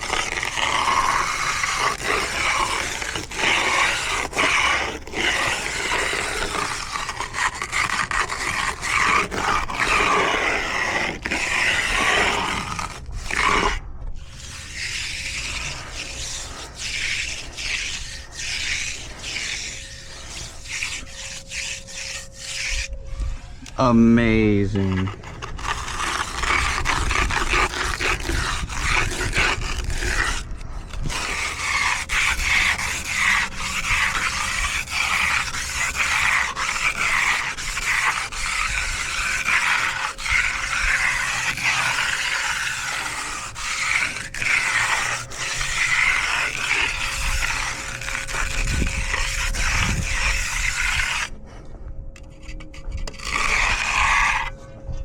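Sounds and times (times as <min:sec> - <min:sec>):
trowel scraping wet concrete: 0:00.0 - 0:23.0, 0:23.7 - 0:51.3, 0:52.2 - 0:54.6.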